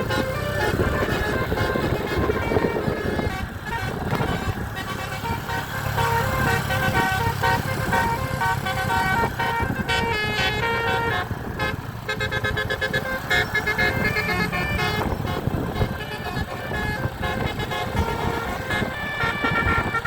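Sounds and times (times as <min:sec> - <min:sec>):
bus engine running: 0:00.0 - 0:20.0
musical bus horn playing a tune: 0:00.0 - 0:20.0.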